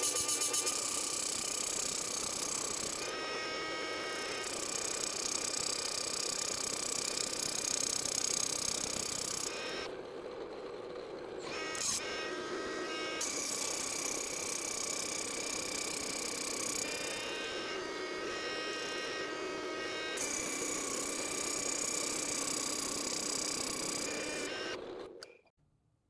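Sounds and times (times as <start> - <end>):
grinder on metal: 0.0 - 10.3, 11.2 - 25.3
drill press whine: 0.0 - 25.5.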